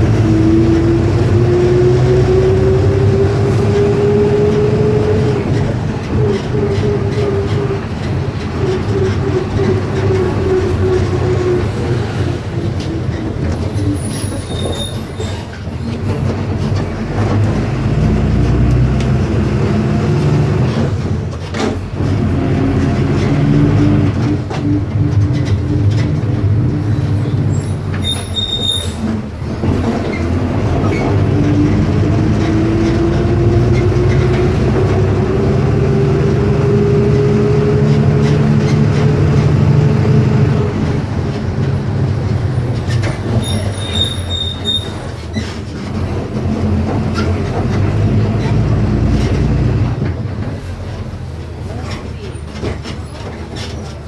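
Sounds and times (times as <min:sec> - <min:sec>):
bus diesel engine accelerating: 0:00.0 - 0:54.0.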